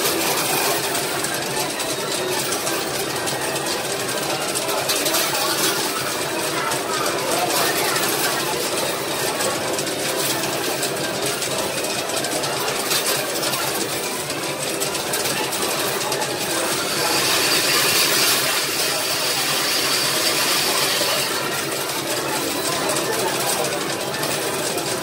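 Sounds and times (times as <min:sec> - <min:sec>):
tokens clinking and rattling: 0:00.0 - 0:25.0.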